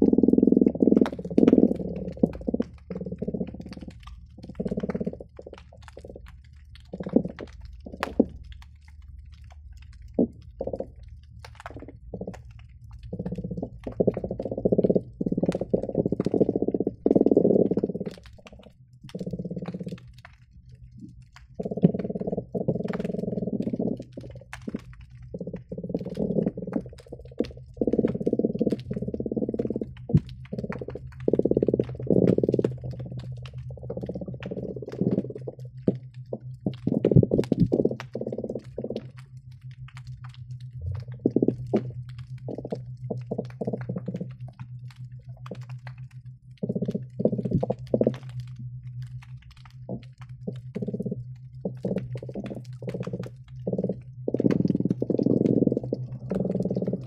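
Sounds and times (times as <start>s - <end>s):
fish grunting underwater: 0.0s - 57.0s
low hum: 0.0s - 57.0s.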